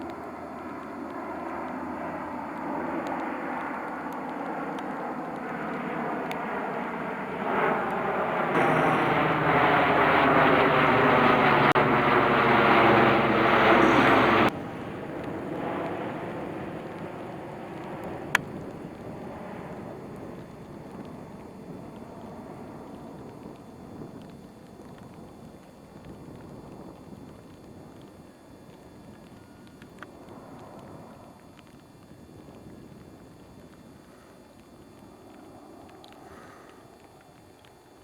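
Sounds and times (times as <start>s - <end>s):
aircraft engines droning: 0.0s - 38.0s.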